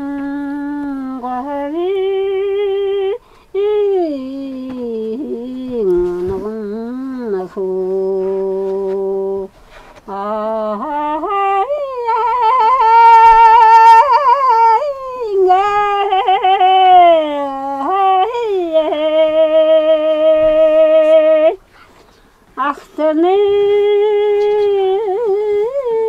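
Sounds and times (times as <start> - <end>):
woman singing unaccompanied: 0.0 - 21.7, 22.5 - 26.0.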